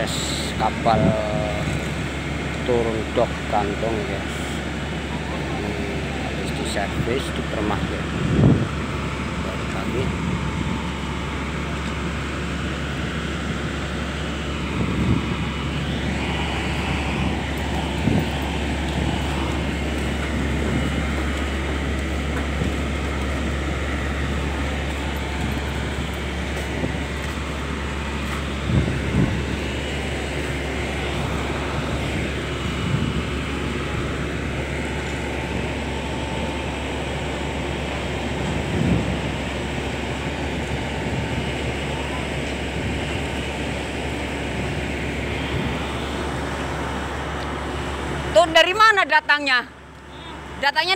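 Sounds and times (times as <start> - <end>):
diesel engine droning: 0.0 - 50.9.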